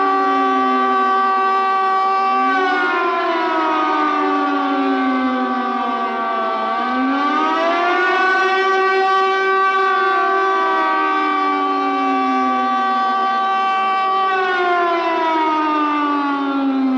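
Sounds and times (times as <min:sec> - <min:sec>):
siren wailing: 0:00.0 - 0:16.9.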